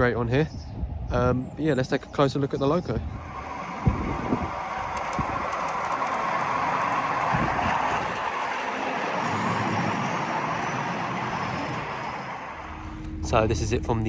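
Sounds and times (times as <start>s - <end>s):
road traffic rush: 2.7s - 14.0s.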